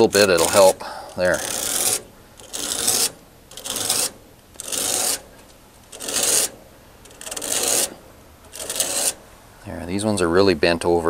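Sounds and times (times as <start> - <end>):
metal comb rasping on aluminum fins: 0.0 - 9.3.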